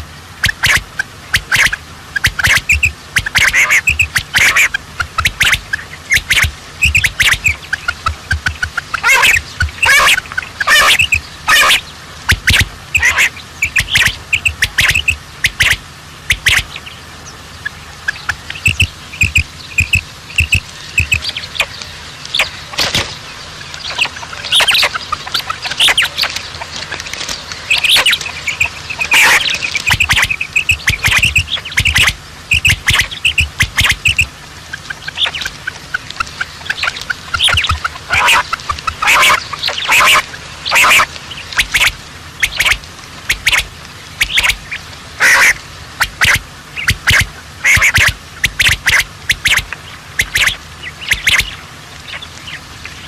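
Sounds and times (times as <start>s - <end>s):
birds chirping: 0.0s - 53.0s
sharp bird calls: 0.0s - 53.0s.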